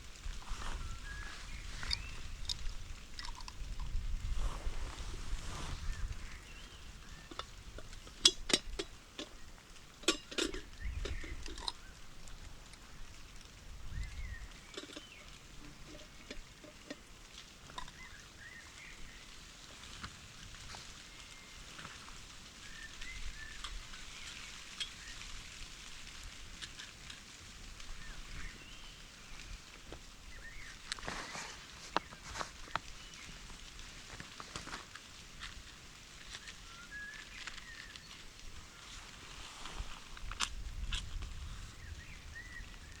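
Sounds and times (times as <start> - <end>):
rain pattering: 0.0 - 43.0
small birds chirping: 0.0 - 43.0.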